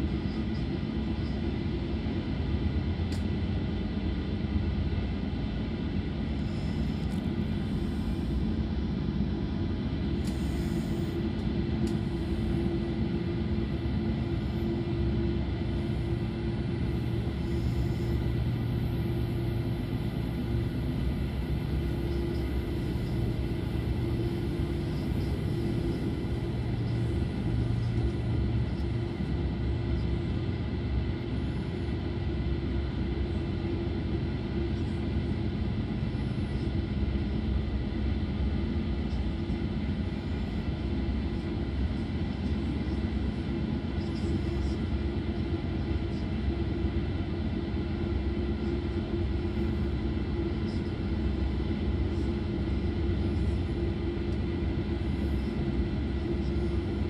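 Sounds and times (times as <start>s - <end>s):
steady hum: 0.0s - 57.0s
train wheels rumbling on track: 5.7s - 57.0s.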